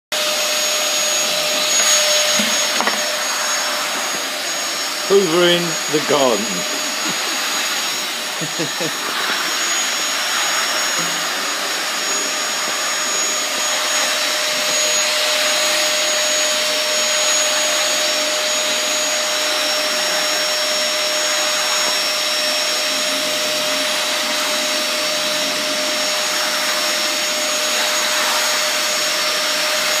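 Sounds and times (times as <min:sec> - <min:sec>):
vacuum cleaner running: 0:00.1 - 0:30.0.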